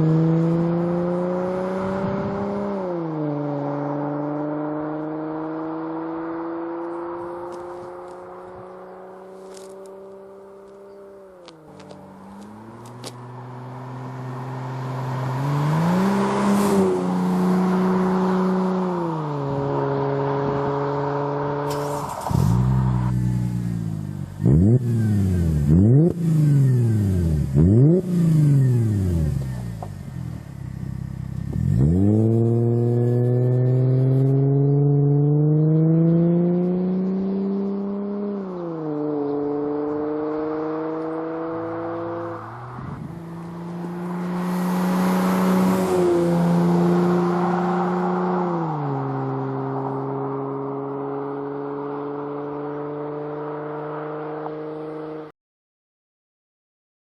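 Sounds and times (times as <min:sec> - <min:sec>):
car engine revving: 0:00.0 - 0:55.3.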